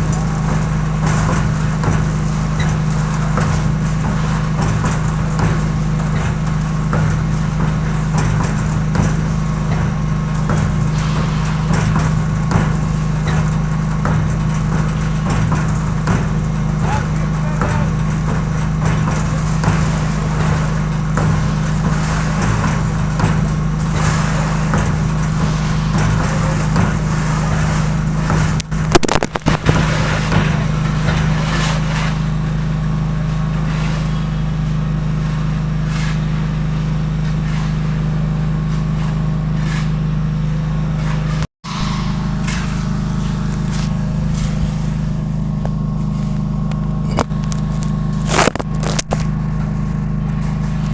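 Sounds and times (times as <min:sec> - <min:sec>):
concrete churning in drum: 0:00.0 - 0:50.9
concrete mixer motor hum: 0:00.0 - 0:50.9.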